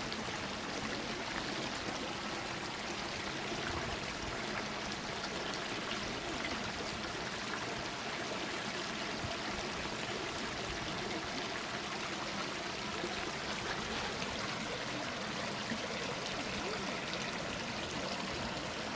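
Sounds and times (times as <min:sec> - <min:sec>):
stream trickling over stones: 0:00.0 - 0:18.9.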